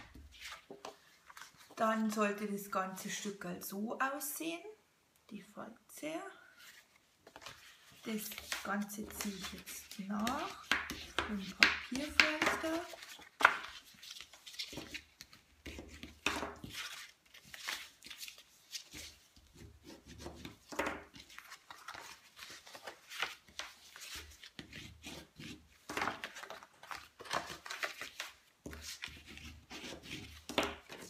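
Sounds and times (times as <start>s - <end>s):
cardstock folding and rustling: 0.0s - 2.1s, 6.5s - 31.0s.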